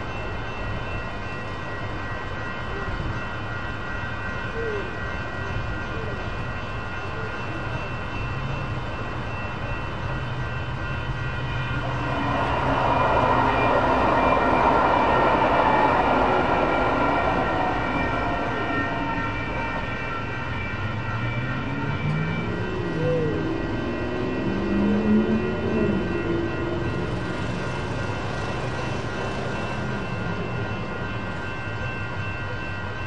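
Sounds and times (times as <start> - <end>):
crossing warning bell ringing: 0.0 - 33.0
train rumble: 0.0 - 33.0.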